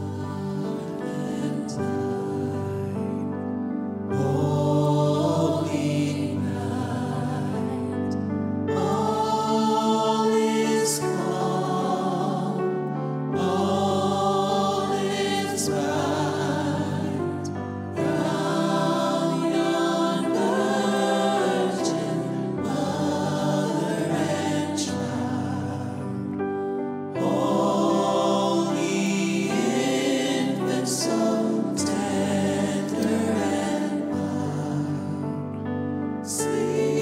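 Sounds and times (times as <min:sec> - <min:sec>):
choir singing slow song: 0:00.0 - 0:37.0.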